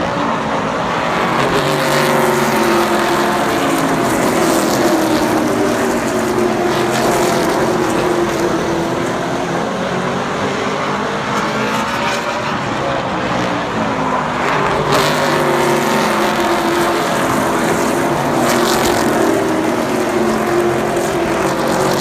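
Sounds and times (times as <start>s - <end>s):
race car engines running: 0.0s - 22.0s.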